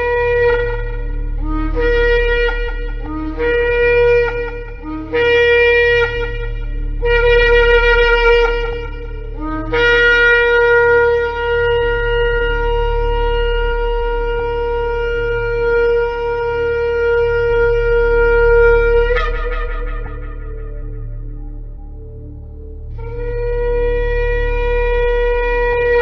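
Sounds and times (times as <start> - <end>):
shofar blasts: 0.0 - 22.3, 22.9 - 26.0
steady low hum: 0.0 - 26.0.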